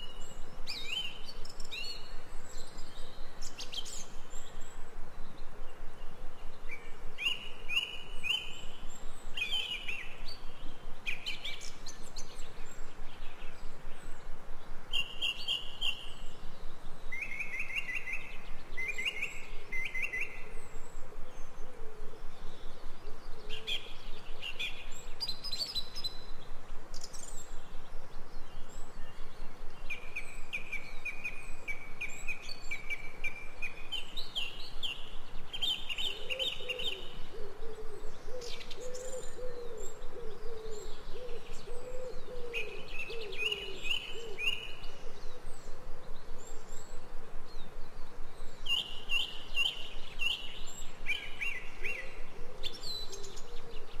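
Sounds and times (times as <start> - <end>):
songbirds trilling: 0.0 - 54.0.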